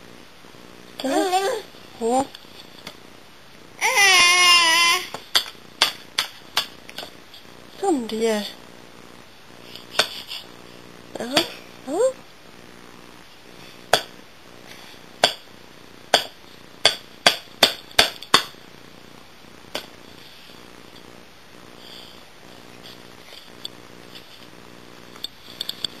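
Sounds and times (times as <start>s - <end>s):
faint low purring hum: 0.0s - 26.0s.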